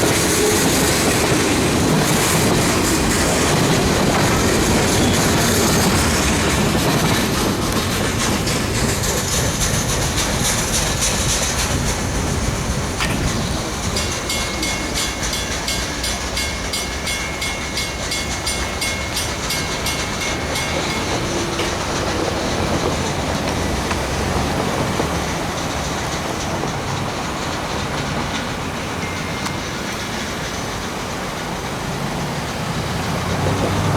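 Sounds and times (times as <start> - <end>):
train wheels clacking over rail joints: 0.0 - 33.9.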